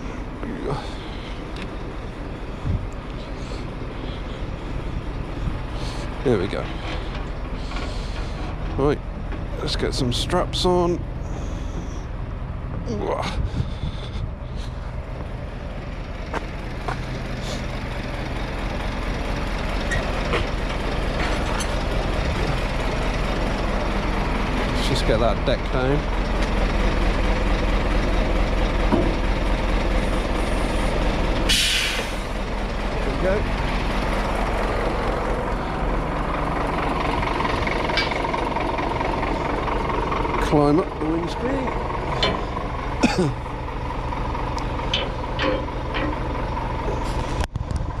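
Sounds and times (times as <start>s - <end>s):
diesel truck engine running: 0.0s - 48.0s.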